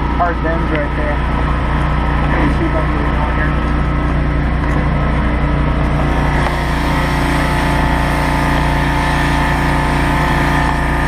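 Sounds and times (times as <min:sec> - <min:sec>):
pressure washer engine running: 0:00.0 - 0:11.0.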